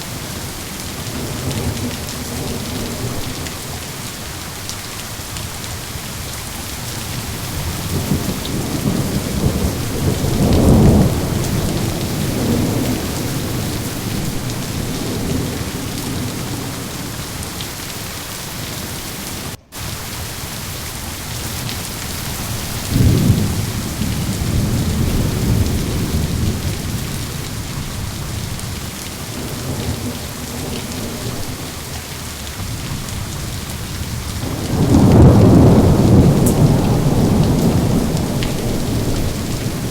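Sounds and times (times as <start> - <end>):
rolling thunder: 0.0 - 4.2, 5.6 - 18.0, 21.5 - 39.9
steady rain: 0.0 - 39.9.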